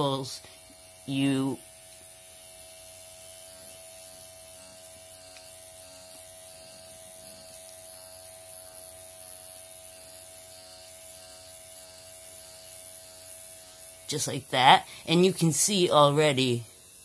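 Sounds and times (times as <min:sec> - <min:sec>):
electric pen buzzing: 0:00.0 - 0:17.0.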